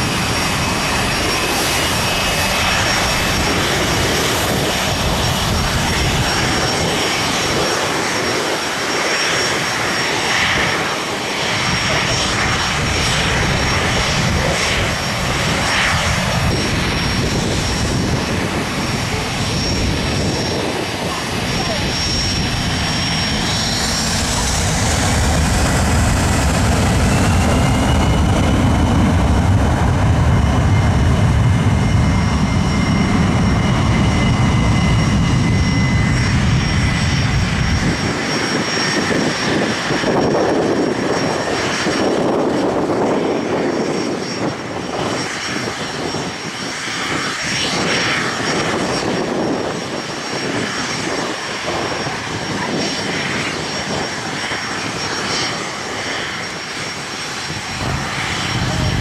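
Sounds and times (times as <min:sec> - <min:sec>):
aircraft engines rumbling: 0:00.0 - 0:59.0.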